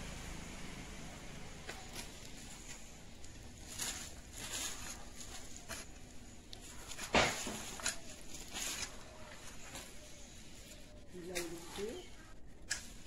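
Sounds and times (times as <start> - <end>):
rake scraping through compost: 1.6 - 13.0.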